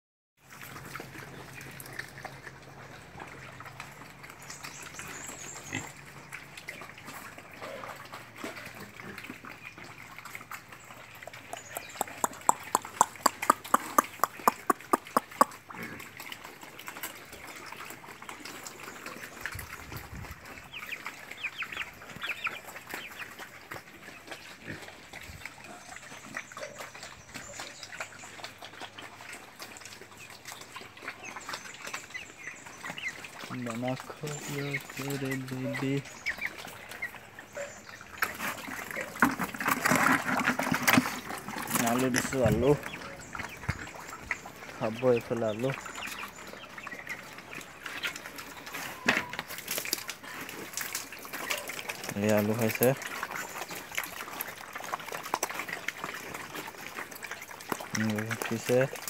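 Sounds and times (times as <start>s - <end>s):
pigs grunting and squealing: 0.5s - 19.8s, 20.4s - 59.0s.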